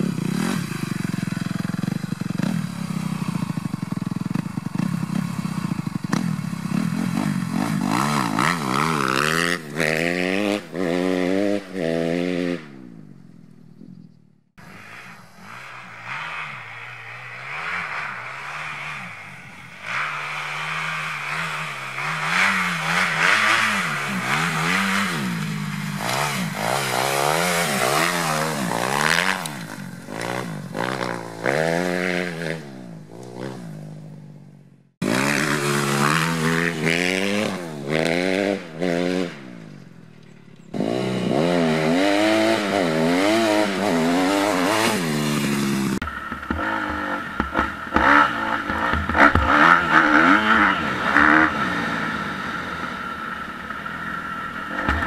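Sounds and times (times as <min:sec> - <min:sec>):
dirt bike engine revving: 0:00.0 - 0:13.8, 0:14.6 - 0:55.0.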